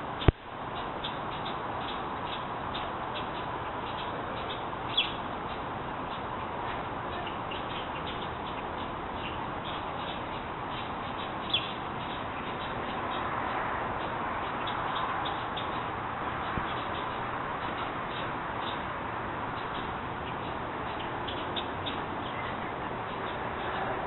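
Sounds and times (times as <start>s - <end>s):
baby birds cheeping: 0.2s - 23.8s.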